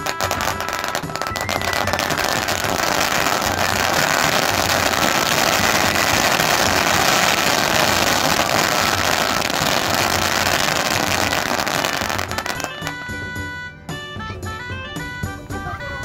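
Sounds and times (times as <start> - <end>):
firecrackers crackling: 0.0 - 13.4.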